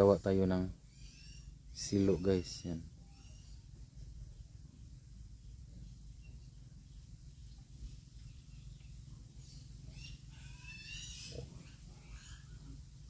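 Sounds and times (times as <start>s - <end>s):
bird chirping: 0.0s - 13.0s
low steady rumble: 0.0s - 13.0s.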